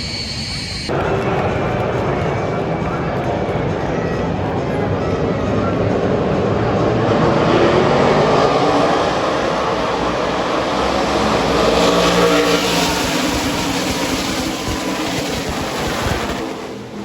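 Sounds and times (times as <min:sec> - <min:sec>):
race trucks engines at speed: 0:00.0 - 0:17.0.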